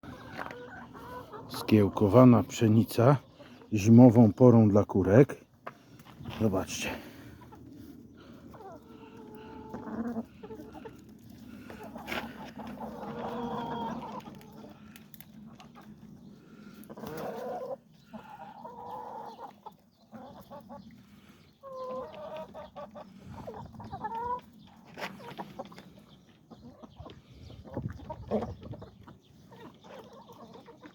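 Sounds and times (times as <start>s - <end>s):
drawn-out hen calls: 0.0s - 30.9s
hens clucking: 0.0s - 30.9s.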